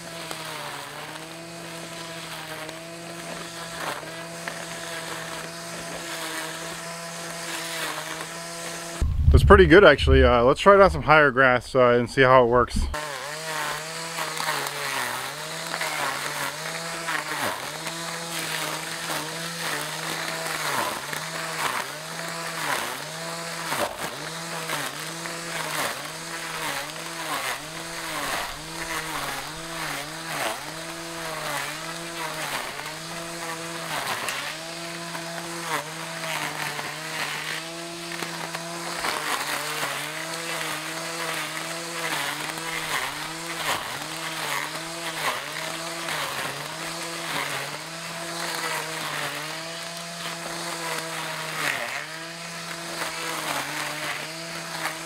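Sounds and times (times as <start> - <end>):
string trimmer motor whining: 0.0 - 9.3, 12.8 - 55.0
grass swishing: 0.0 - 11.6, 12.8 - 55.0.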